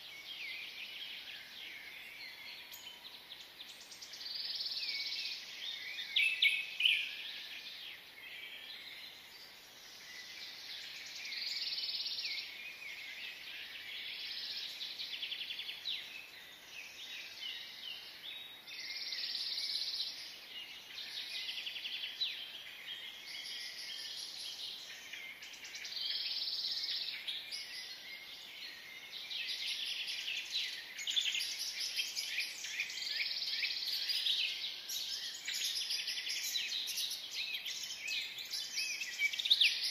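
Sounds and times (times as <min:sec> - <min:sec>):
birds chirping: 0:00.0 - 0:39.9
steady background hiss: 0:00.0 - 0:39.9.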